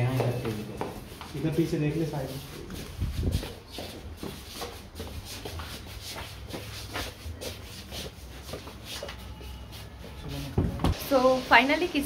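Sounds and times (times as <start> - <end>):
shuffling footsteps: 0.0 - 11.4.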